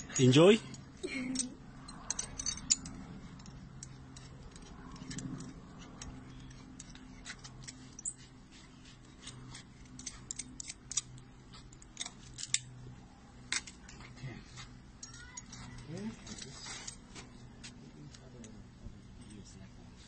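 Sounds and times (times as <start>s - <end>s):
metal carabiners clinking: 0.0s - 19.6s
low steady hum: 0.0s - 20.0s.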